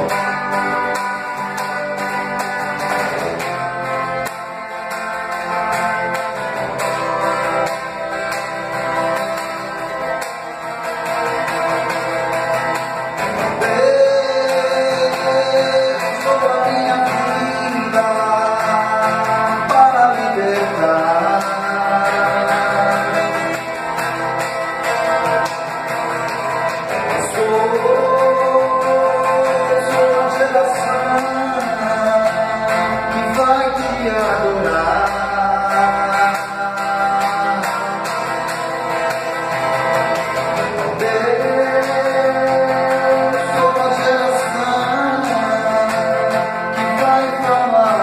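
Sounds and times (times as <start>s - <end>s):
electric guitar with sliding notes: 0.0s - 48.0s.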